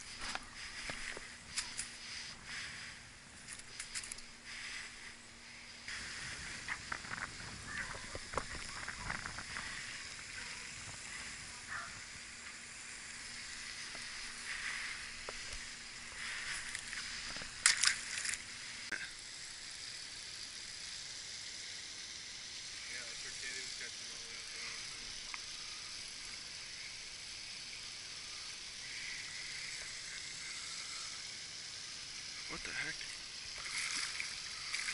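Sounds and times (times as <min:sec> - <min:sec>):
steady high hiss: 0:00.0 - 0:34.9.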